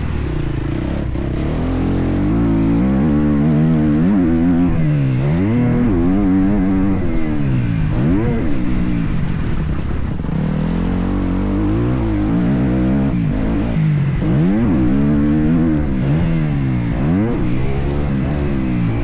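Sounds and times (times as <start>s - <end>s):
low wind rumble: 0.0s - 19.0s
motocross bike engine revving: 0.0s - 19.0s.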